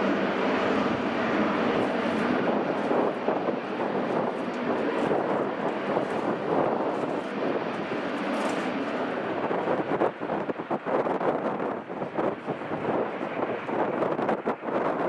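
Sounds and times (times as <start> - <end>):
airliner engines rushing: 0.0 - 15.0
wind buffeting microphone: 0.0 - 15.0.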